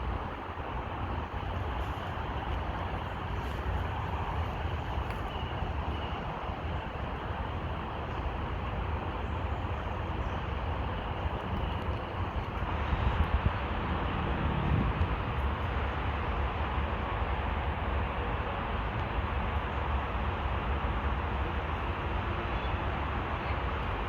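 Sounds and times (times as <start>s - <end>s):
road traffic hum: 0.0s - 24.0s.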